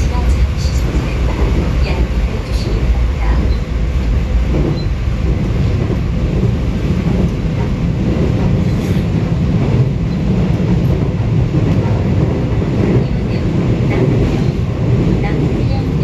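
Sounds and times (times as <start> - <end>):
train rumbling in tunnel: 0.0 - 16.0.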